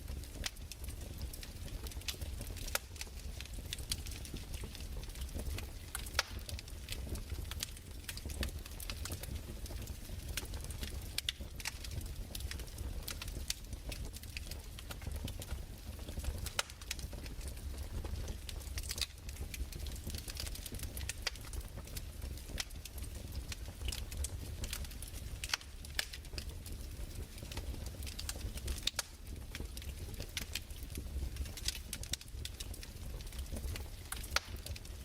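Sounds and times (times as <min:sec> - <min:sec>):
fire crackling with pops and snaps: 0:00.0 - 0:35.0.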